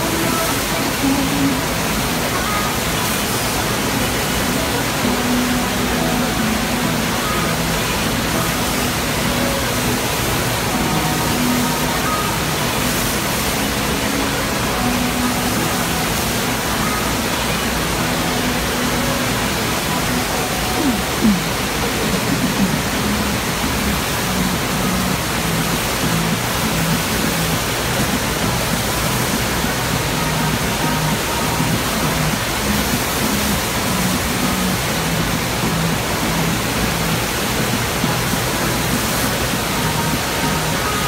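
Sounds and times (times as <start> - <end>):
rushing water: 0.0 - 41.0.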